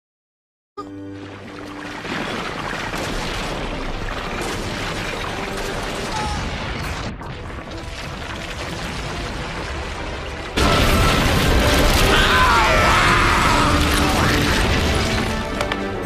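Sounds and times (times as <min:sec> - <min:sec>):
rock crumbling and rumbling: 0:01.8 - 0:16.0.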